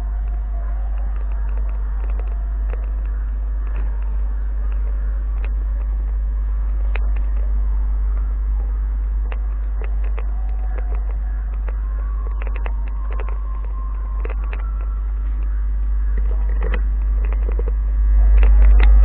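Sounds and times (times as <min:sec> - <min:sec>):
light clicks and knocks: 0:00.0 - 0:17.8
electric train rumbling: 0:00.0 - 0:19.0.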